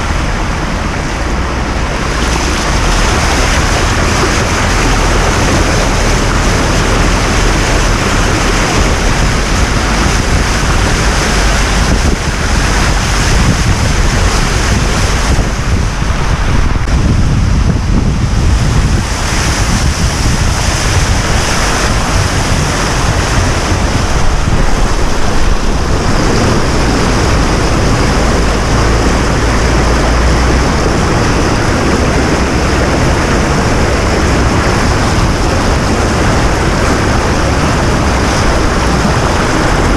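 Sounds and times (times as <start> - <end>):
low vehicle rumble: 0.0 - 39.9
rush of water: 0.0 - 39.9
wind noise: 0.0 - 39.9.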